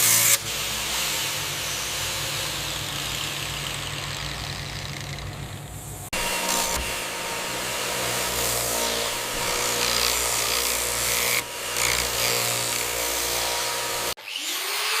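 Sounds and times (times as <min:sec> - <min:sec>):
power tool running: 0:00.0 - 0:05.5, 0:06.1 - 0:15.0.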